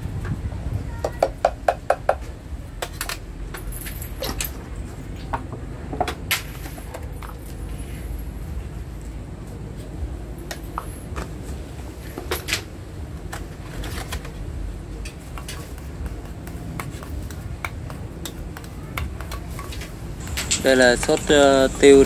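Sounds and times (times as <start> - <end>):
steady low rumble: 0.0 - 1.0, 1.6 - 22.0.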